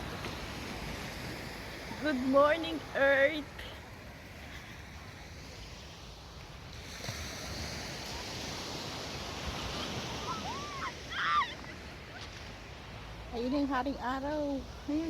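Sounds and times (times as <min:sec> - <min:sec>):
sea surf washing onto beach: 0:00.0 - 0:15.0.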